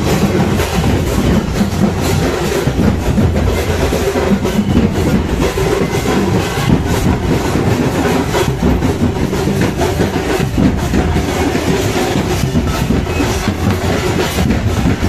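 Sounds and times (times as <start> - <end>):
crowd din: 0.0 - 15.0
drums and cymbals clattering: 0.0 - 15.0.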